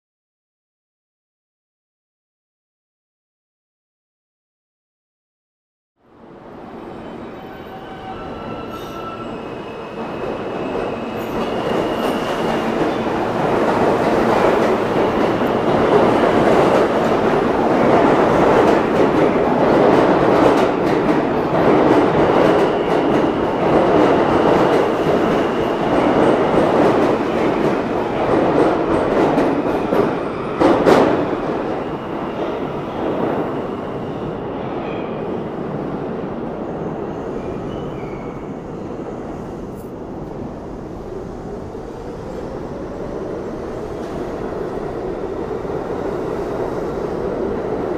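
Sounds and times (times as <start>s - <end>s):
subway train wheels clattering: 6.2s - 47.9s.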